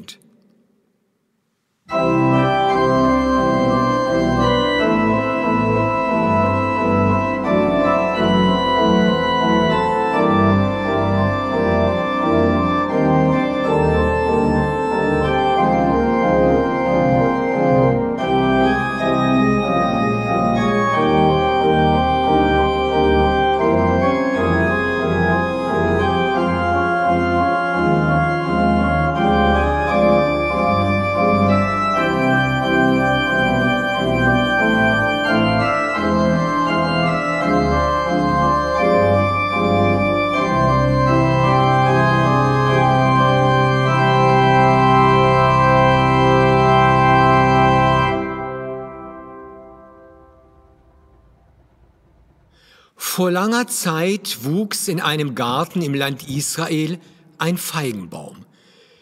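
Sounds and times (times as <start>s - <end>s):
pipe organ chords: 1.9s - 59.0s.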